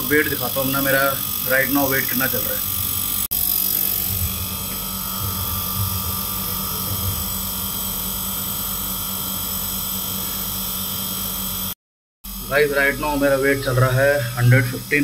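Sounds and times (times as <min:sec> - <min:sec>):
motor humming with high hiss: 0:00.0 - 0:15.0.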